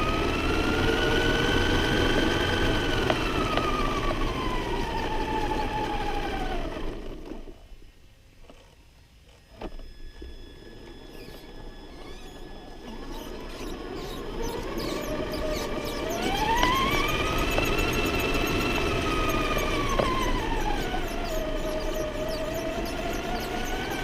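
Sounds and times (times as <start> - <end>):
toy truck motor whining: 0.0 - 7.6, 8.5 - 24.0.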